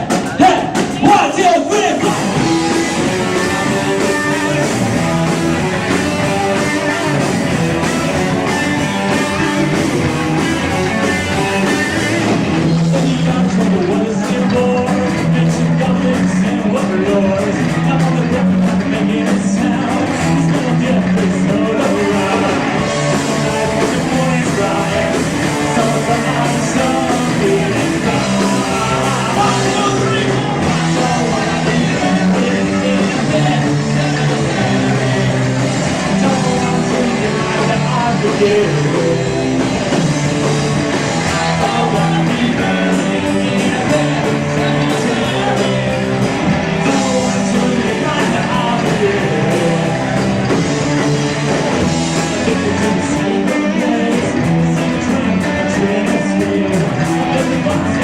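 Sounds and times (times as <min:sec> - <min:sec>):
bass line: 0:00.0 - 0:58.0
electric guitar: 0:00.0 - 0:58.0
person singing: 0:00.0 - 0:58.0
rock band playing live: 0:00.0 - 0:58.0.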